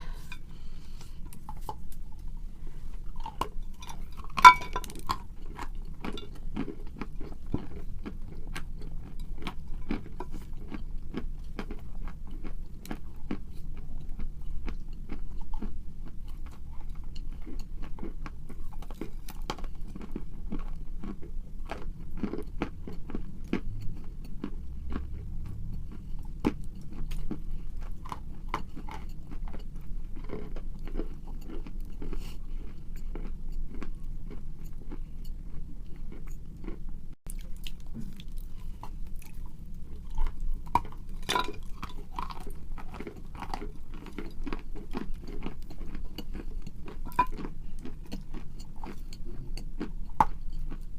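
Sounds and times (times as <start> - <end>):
chalk crunching and chewing: 1.0 - 50.9.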